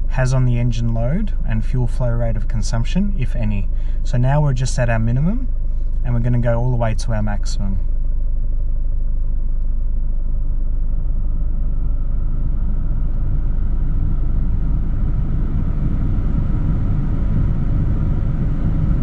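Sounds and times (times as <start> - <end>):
engine idling rumble: 0.0 - 19.0.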